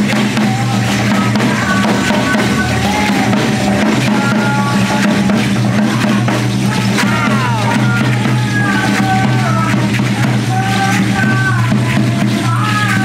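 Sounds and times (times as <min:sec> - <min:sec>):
drum beaten with sticks: 0:00.0 - 0:13.0.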